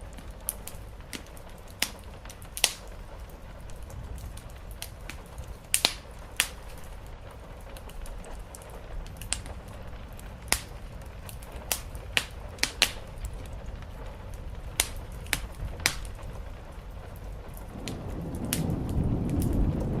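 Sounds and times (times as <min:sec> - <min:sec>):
low steady rumble: 0:00.0 - 0:20.0
sharp fire pops: 0:00.0 - 0:20.0
wood fire crackling: 0:00.0 - 0:20.0.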